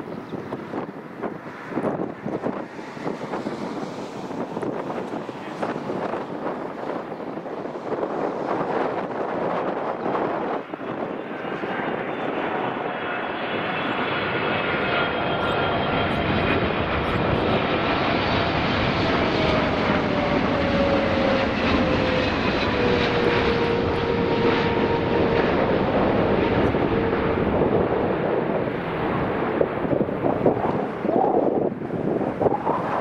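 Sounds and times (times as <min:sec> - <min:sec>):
jet engine rumble: 0:00.0 - 0:33.0
jet engine whine falling in pitch: 0:00.0 - 0:33.0.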